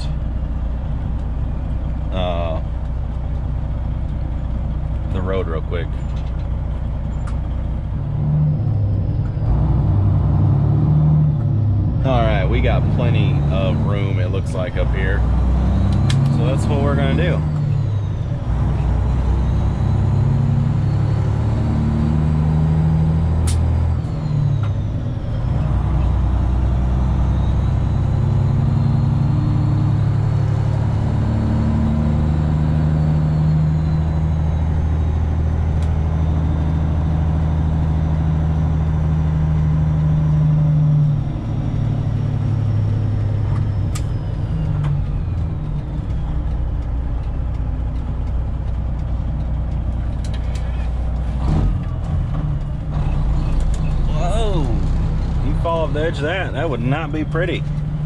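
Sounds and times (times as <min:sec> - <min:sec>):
truck diesel engine running: 0:00.0 - 0:58.0.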